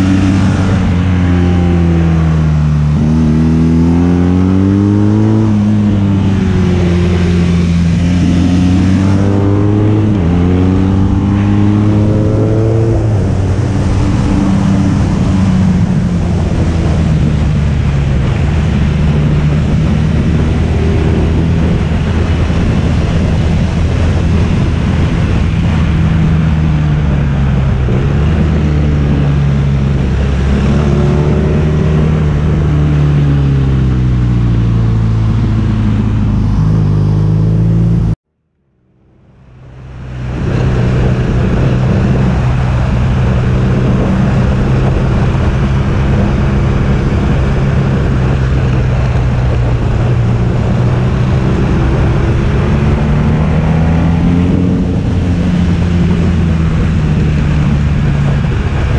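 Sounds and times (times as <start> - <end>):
motorcycle engine revving: 0.0 - 38.2, 38.9 - 58.9
wind noise: 0.0 - 38.2, 39.0 - 58.9.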